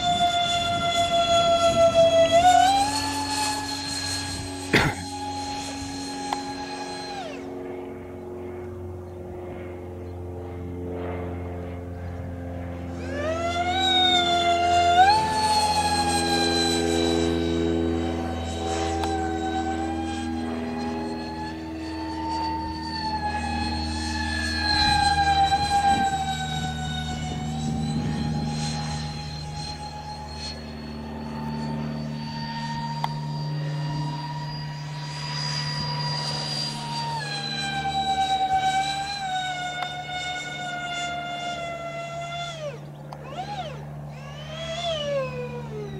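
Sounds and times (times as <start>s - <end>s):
model jet ducted fans whining: 0.0s - 45.9s.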